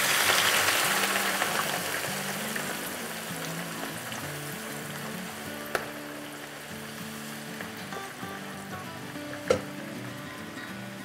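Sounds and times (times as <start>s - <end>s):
onions sizzling in hot oil: 0.0s - 11.0s
background music: 0.1s - 11.0s.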